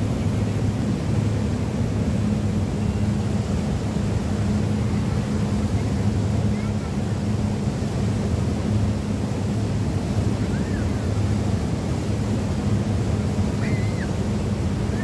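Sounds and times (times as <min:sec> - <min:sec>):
boat engine drone: 0:00.0 - 0:15.0
wind and water rushing: 0:00.0 - 0:15.0.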